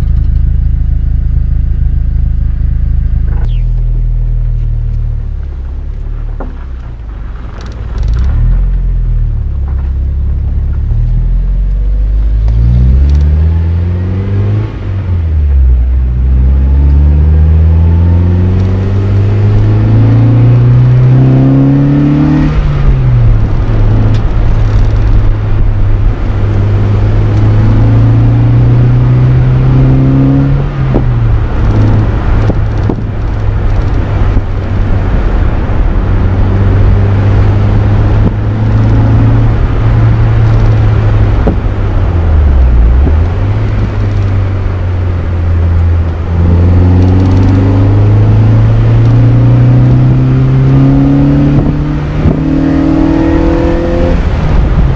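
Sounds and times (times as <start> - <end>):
car engine pulling through gears: 0.0 - 54.9.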